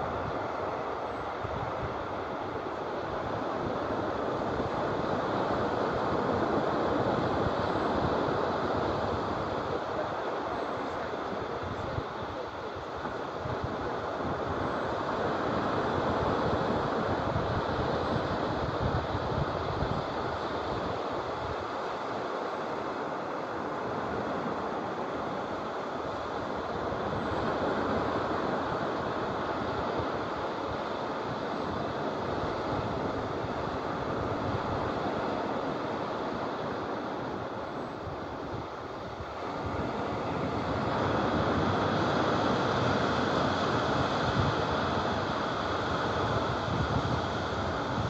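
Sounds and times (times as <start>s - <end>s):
waves breaking on sand beach: 0.0s - 48.0s.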